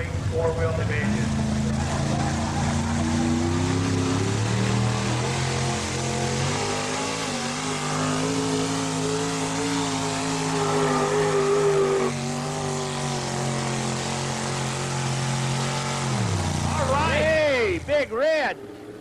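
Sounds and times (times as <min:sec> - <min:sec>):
truck engine running under load: 0:00.0 - 0:17.9.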